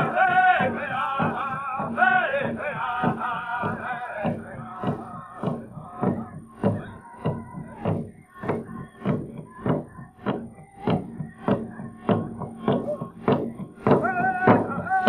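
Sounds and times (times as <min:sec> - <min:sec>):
drum struck at steady beat: 0:00.0 - 0:15.0
person singing: 0:00.0 - 0:15.0.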